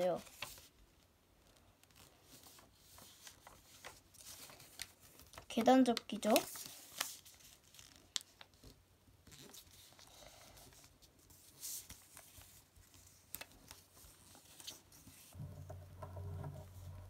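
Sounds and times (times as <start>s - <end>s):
paper rustling and scraping: 0.0s - 0.7s, 1.8s - 17.0s.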